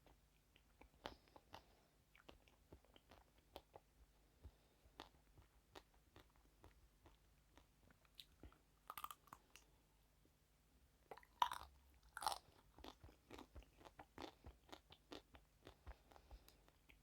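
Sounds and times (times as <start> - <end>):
crunchy chewing: 0.0 - 9.7, 11.1 - 17.0.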